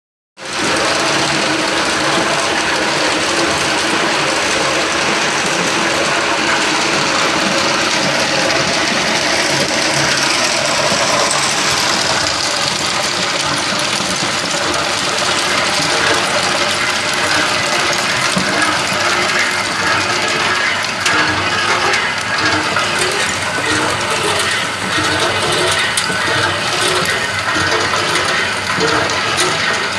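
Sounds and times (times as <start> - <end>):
ice machine humming and rattling: 0.4 - 29.9.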